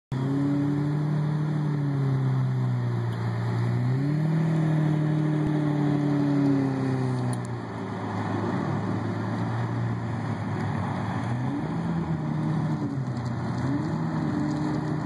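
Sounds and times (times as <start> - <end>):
sports car engines at low revs: 0.1 - 15.0.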